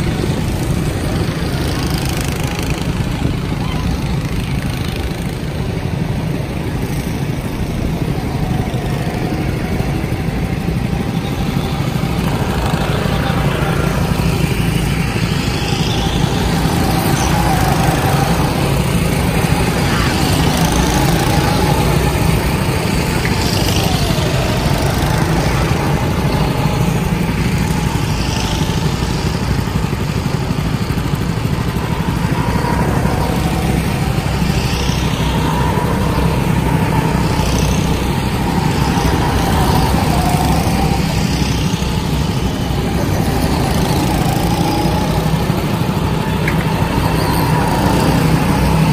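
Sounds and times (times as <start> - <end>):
go-kart engines droning: 0.0 - 48.9.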